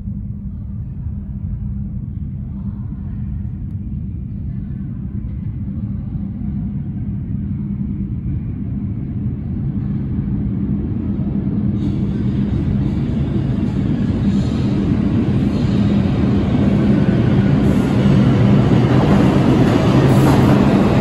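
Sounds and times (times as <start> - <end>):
constant hum: 0.0 - 21.0
subway train rumbling: 0.0 - 21.0.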